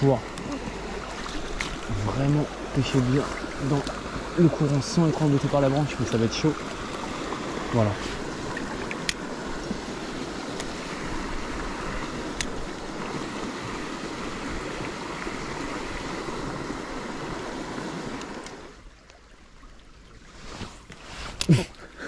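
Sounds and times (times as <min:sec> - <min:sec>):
stream rushing over cascade: 0:00.0 - 0:21.7.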